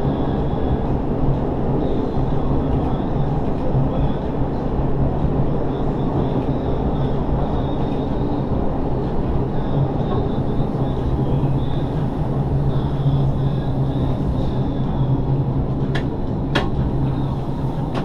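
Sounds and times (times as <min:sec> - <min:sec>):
steady low hum: 0:00.0 - 0:18.0
wheels rumbling on rail: 0:00.0 - 0:18.0.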